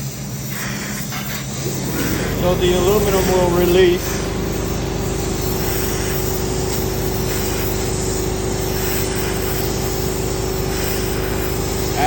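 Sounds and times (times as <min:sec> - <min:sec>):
gas torch hissing: 0:00.0 - 0:12.0
mechanical hum: 0:00.0 - 0:12.0.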